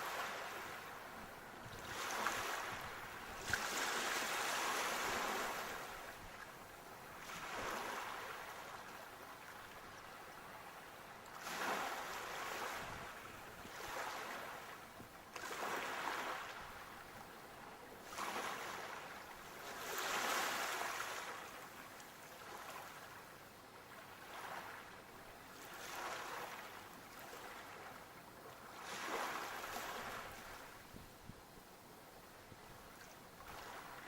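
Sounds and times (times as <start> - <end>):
sea waves breaking on shore: 0.0 - 31.0, 32.6 - 34.0.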